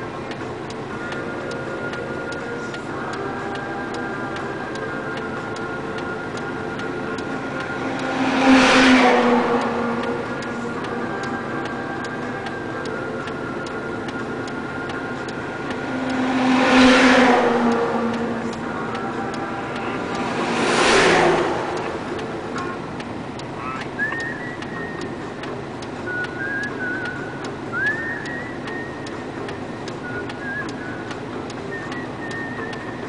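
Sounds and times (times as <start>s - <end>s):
engine hum with ticking: 0.0s - 33.0s
heavy dump trucks passing: 0.0s - 33.0s.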